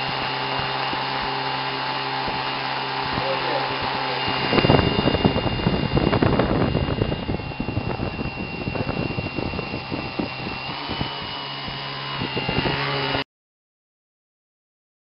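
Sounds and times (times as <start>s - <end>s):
small motor high whine: 0.0s - 13.3s.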